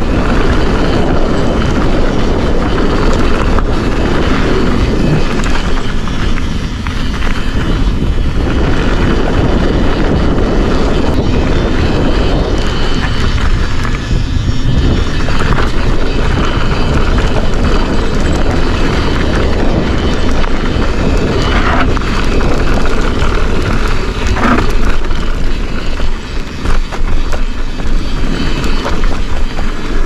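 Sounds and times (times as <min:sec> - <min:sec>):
bike clicks and rattles: 0:00.0 - 0:30.0
tyres rolling on dirt trail: 0:00.0 - 0:30.0
wind rushing over microphone: 0:00.0 - 0:30.0.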